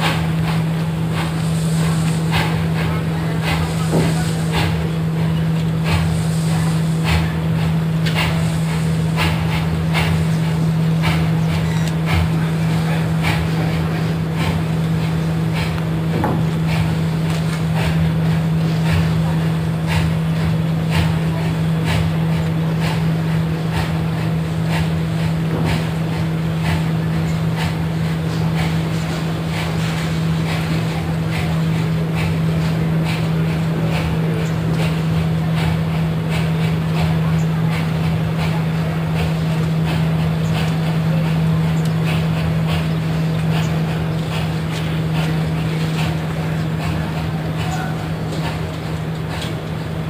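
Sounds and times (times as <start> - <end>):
steady low hum: 0.0 - 50.0
steam locomotive exhaust beats: 0.0 - 50.0.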